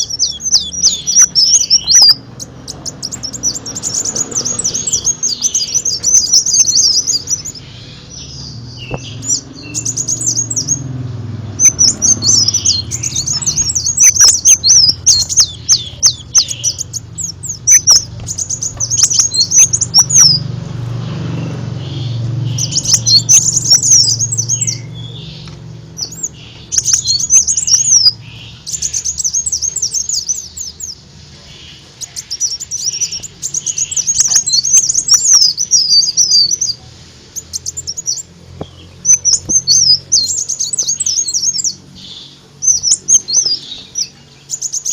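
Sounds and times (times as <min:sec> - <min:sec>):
sunbird chirping and trilling: 0:00.0 - 0:44.9.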